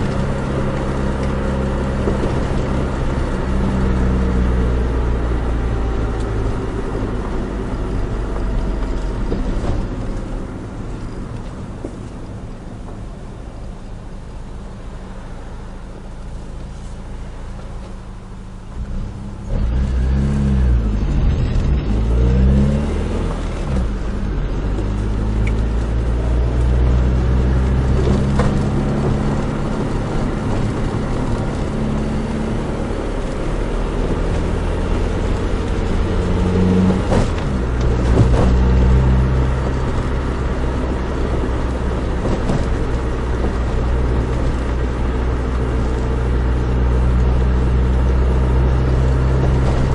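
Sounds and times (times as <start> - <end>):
car engine revving: 0.0 - 12.2, 17.8 - 49.9
road noise: 0.0 - 49.9.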